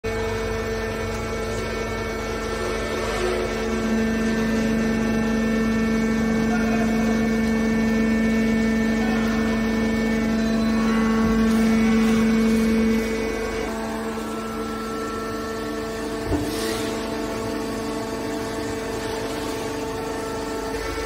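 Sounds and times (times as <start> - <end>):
hydraulic power unit droning hum: 0.0 - 21.0.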